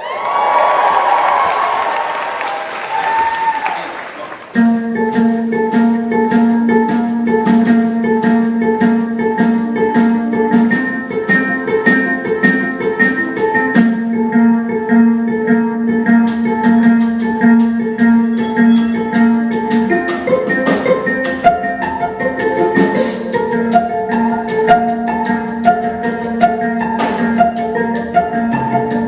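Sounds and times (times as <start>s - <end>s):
plucked string instrument: 4.4s - 29.0s.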